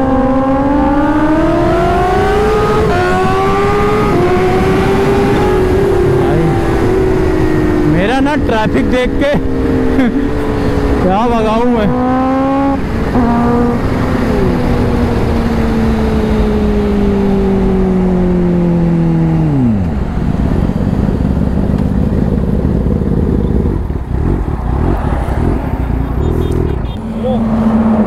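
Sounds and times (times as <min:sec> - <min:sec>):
motorcycle engine running high: 0:00.0 - 0:28.0
wind and road rush: 0:00.0 - 0:28.0.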